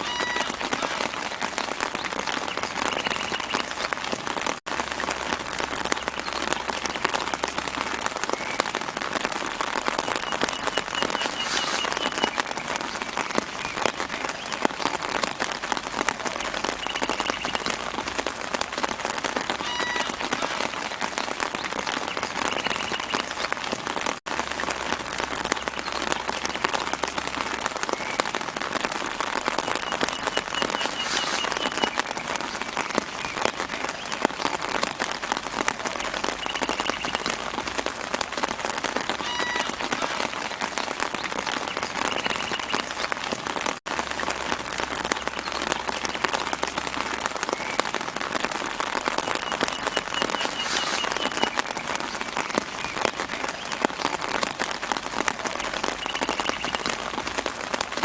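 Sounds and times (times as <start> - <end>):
light rain falling on leaves: 0.0 - 58.0.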